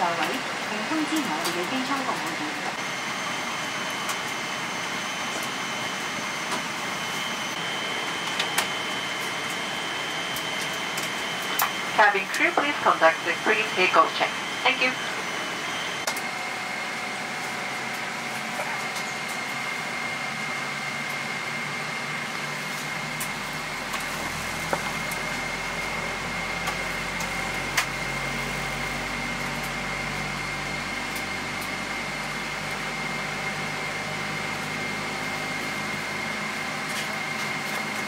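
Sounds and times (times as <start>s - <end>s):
high steady whine: 0.0s - 38.0s.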